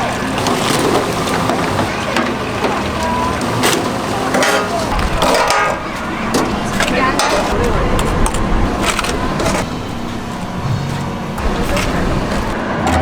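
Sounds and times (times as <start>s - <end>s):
faint voices: 0.0s - 13.0s
steady street din: 0.0s - 13.0s.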